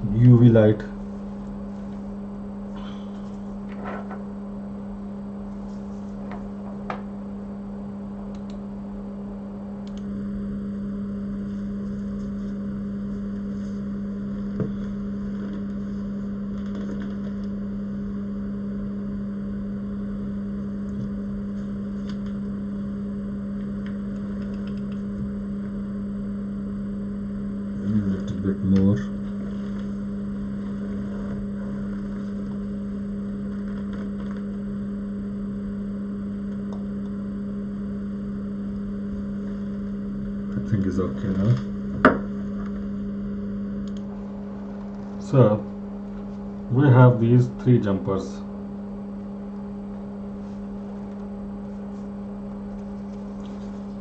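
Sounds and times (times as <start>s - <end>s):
uv lamp electrical hum: 0.0s - 54.0s.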